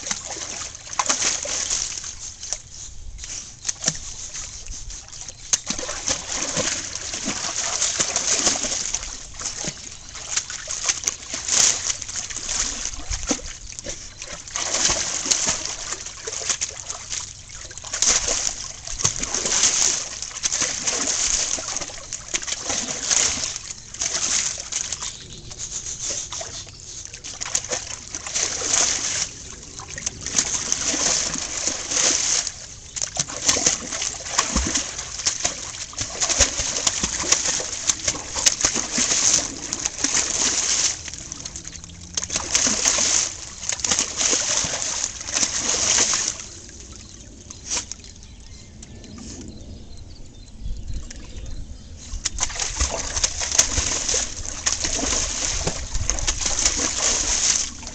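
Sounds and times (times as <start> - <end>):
dog splashing in water: 0.0 - 48.3, 52.2 - 57.9.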